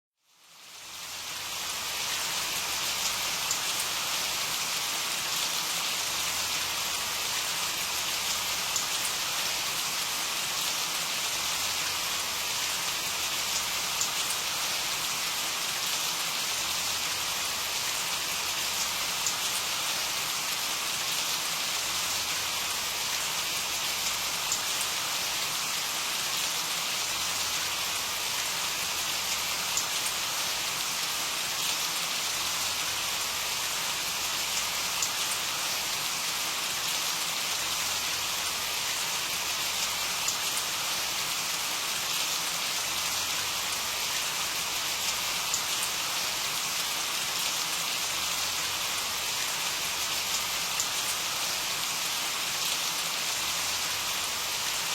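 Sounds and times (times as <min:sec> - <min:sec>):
patter of raindrops: 0:00.2 - 0:54.9
steady rain falling: 0:00.2 - 0:54.9.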